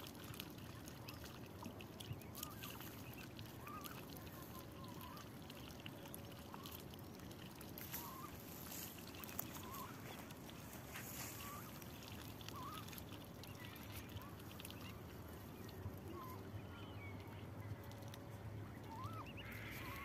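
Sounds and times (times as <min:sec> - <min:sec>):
ducks dabbling with wet clicks: 0:00.0 - 0:20.0.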